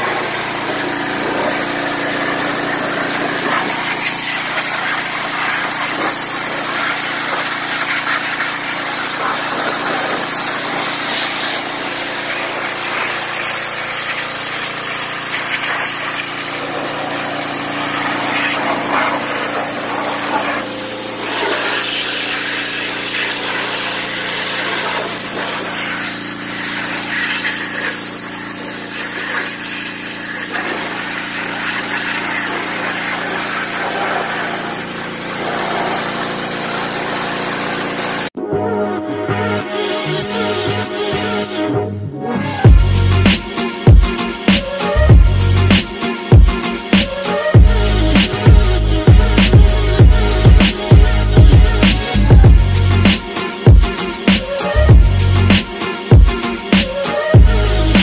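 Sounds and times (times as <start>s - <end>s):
pressure washer engine hum: 0.0s - 38.4s, 42.6s - 58.0s
water jet hissing: 0.0s - 38.4s, 43.2s - 58.0s.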